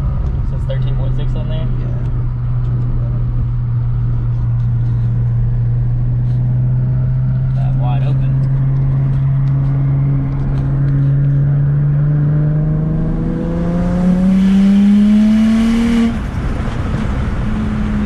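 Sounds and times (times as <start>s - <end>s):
car engine under full throttle: 0.0s - 18.0s.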